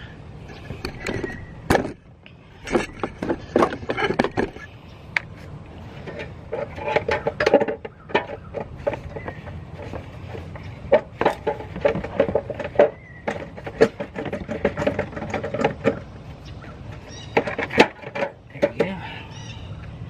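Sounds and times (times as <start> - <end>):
hand tools clinking and scraping: 0.5 - 19.3.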